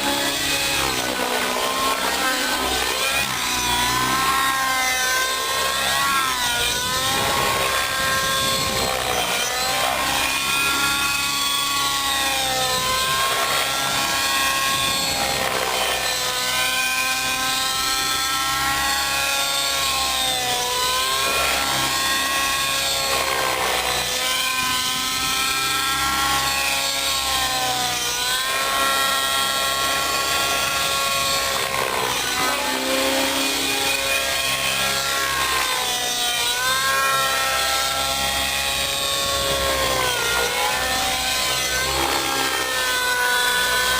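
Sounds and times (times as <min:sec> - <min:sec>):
model helicopter engine and rotor: 0:00.0 - 0:43.9.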